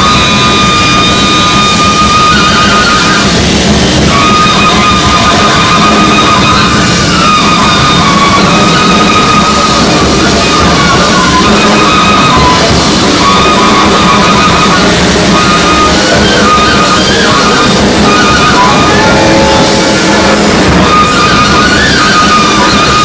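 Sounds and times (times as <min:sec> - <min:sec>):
brass horn: 0:00.0 - 0:23.0
busy drums: 0:00.0 - 0:23.0
saxophone high sustained tones: 0:00.0 - 0:23.0.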